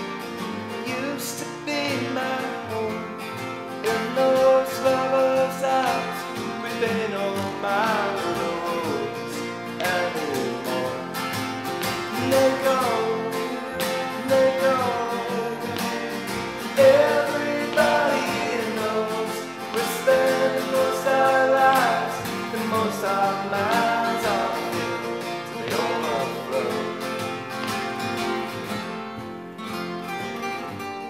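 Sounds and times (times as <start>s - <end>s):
acoustic guitars strumming: 0.0s - 31.0s
man singing: 0.8s - 11.3s, 12.0s - 27.2s.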